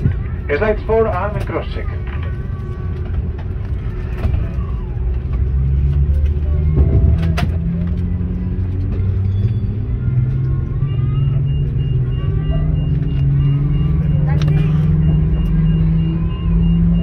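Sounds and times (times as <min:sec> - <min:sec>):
aircraft cabin rumble: 0:00.0 - 0:17.0.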